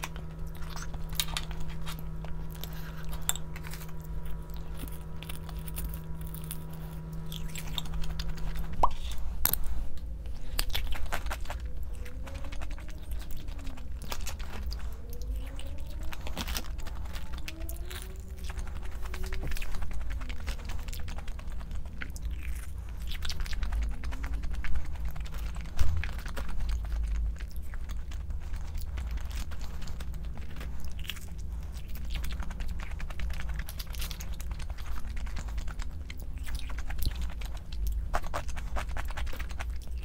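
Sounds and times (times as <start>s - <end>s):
food chewing and crunching: 0.0s - 40.0s
steady electrical hum: 0.0s - 40.0s.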